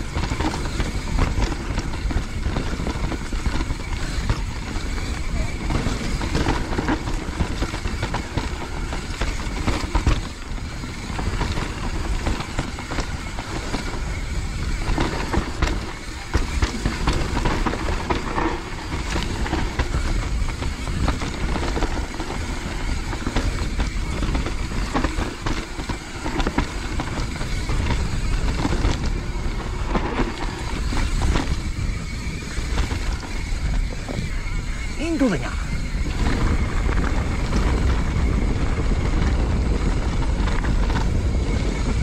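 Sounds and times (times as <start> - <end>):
mountain bike rattling: 0.0 - 42.0
bike knocking over roots: 0.1 - 35.0.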